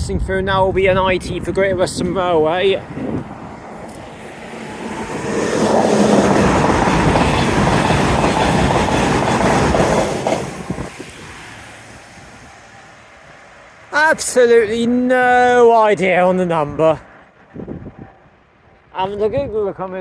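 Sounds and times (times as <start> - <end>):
train passing at speed: 1.5 - 19.2.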